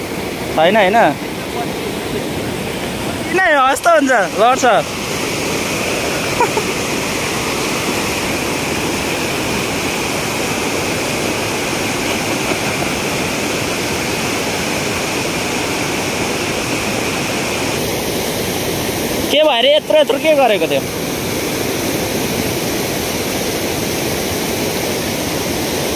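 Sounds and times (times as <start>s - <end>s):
river rushing over boulders: 0.0s - 25.9s.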